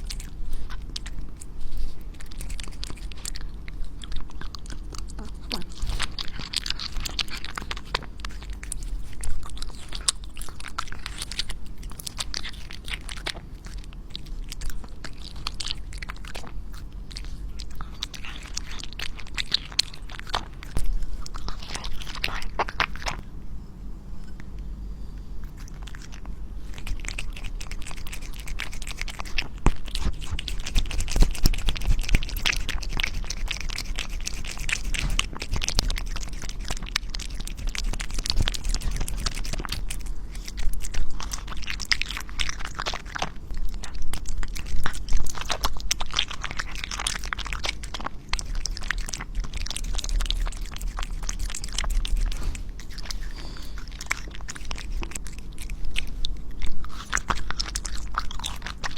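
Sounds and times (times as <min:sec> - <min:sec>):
cat chewing food: 0:00.0 - 0:23.4, 0:24.2 - 0:58.9.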